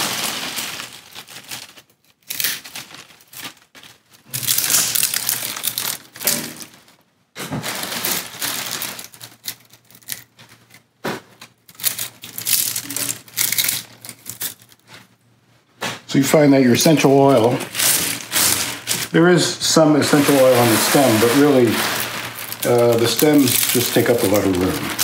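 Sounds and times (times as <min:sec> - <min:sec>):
dried leaves rustling: 0:00.0 - 0:07.0, 0:07.6 - 0:10.3, 0:11.7 - 0:15.0, 0:16.7 - 0:25.0
plastic bag crinkling: 0:00.0 - 0:15.2, 0:16.6 - 0:25.0.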